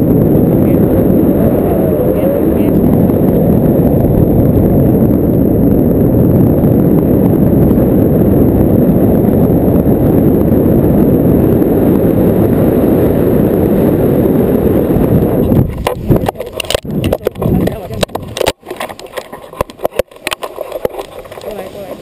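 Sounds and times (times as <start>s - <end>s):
loud wind rumble on microphone: 0.0s - 22.0s.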